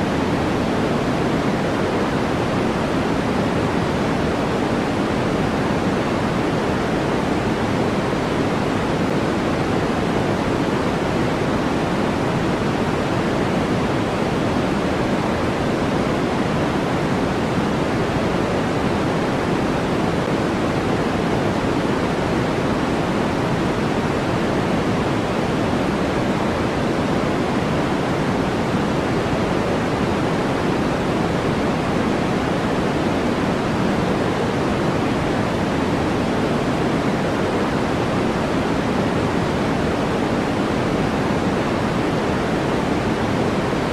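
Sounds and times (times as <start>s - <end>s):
deep white noise hiss: 0.0s - 43.9s.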